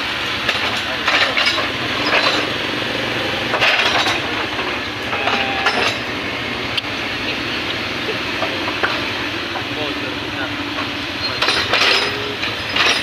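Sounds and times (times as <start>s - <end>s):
excavator diesel engine running: 0.0s - 13.0s
metallic clanking and scraping: 0.4s - 6.2s, 8.3s - 13.0s.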